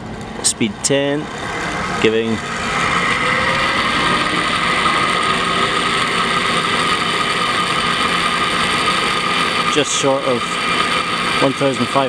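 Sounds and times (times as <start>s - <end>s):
lathe motor whining: 0.0s - 12.0s.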